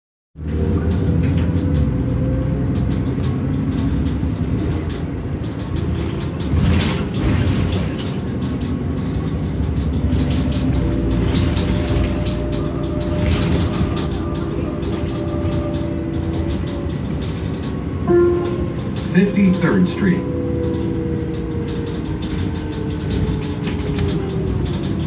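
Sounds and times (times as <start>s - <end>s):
body and fittings rattling: 0.4s - 25.0s
bus diesel engine running: 0.4s - 25.0s.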